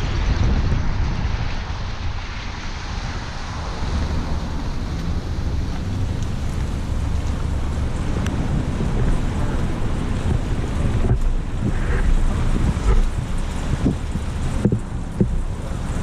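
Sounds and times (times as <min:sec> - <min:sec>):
road rumble: 0:00.0 - 0:16.0
wind buffeting microphone: 0:00.0 - 0:16.0
tyre hiss on wet road: 0:01.6 - 0:16.0.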